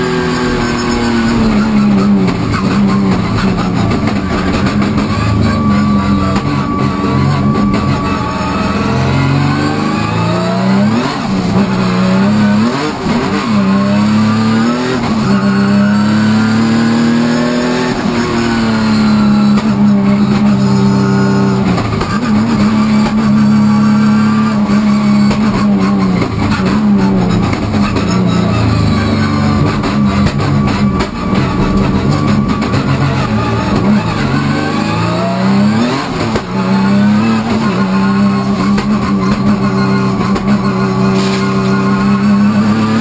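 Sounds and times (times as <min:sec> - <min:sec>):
race car engine at high revs: 0:00.0 - 0:43.0.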